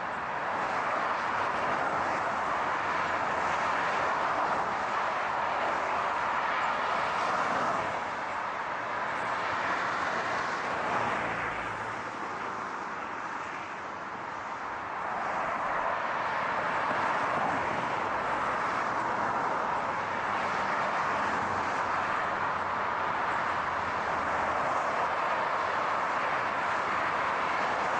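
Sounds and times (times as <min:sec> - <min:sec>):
road and tyre noise: 0:00.0 - 0:27.9.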